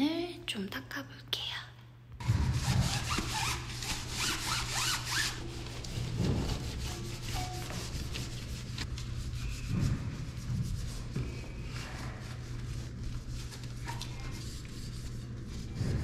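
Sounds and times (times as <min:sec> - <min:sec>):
cloth rubbing bicycle wheel: 0:02.3 - 0:16.0.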